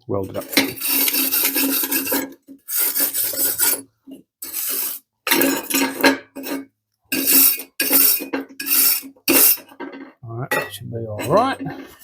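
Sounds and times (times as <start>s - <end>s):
wire brush scrubbing metal: 0.3s - 10.0s.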